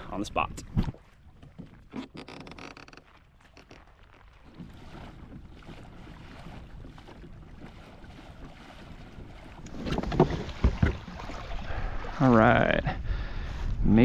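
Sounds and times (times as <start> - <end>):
water lapping: 0.0 - 13.5
wind: 0.0 - 14.0.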